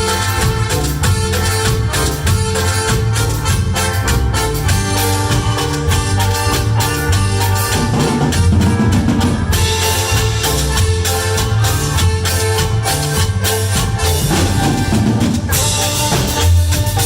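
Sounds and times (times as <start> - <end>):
cumbia band music: 0.0 - 17.0.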